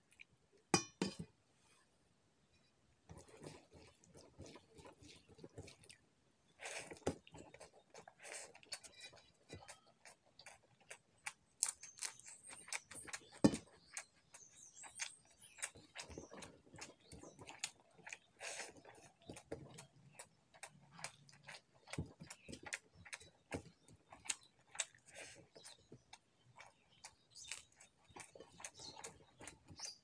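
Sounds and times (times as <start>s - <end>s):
open-mouthed chewing: 3.1s - 30.0s.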